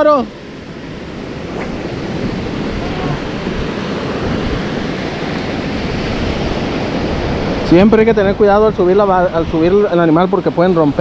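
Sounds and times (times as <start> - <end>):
ocean surf washing in: 0.0 - 11.0.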